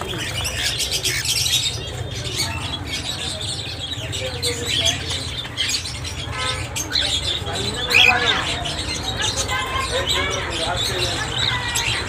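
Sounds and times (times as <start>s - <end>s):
cockatiels chirping and squawking: 0.0s - 12.0s.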